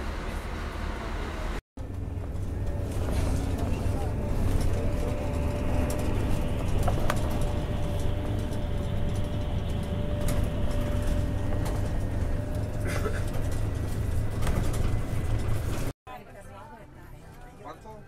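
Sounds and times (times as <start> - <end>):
engine and road drone: 0.0 - 16.0.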